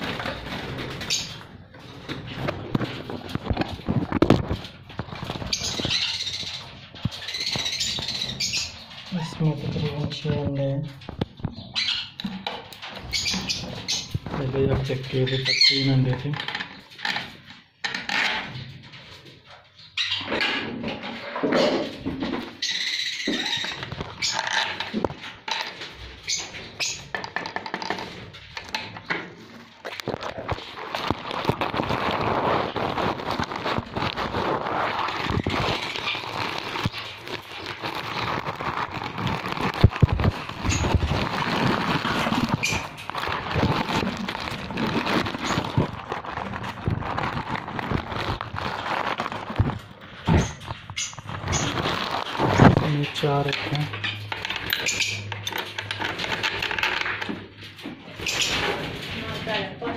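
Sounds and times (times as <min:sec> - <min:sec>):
straw rustling and crackling: 0:00.0 - 0:17.8, 0:23.2 - 0:59.9.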